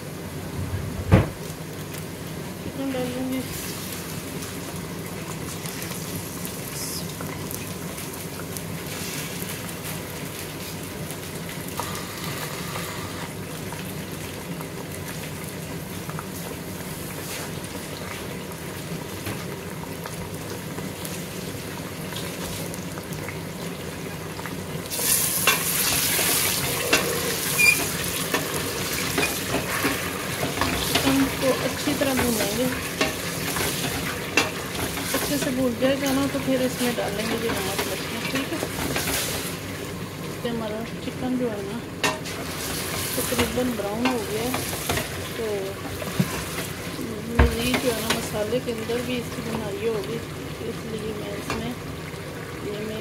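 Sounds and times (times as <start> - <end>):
chicken sizzling in oil: 1.4 - 53.0.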